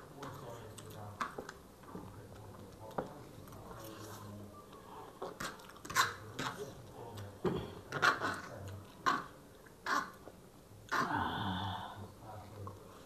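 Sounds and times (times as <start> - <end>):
people chewing noodles: 0.0 - 13.0.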